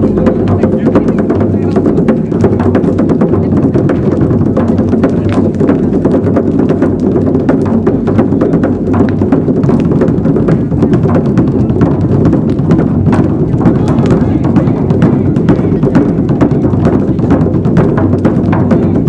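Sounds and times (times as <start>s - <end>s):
fast drumming: 0.0s - 19.0s.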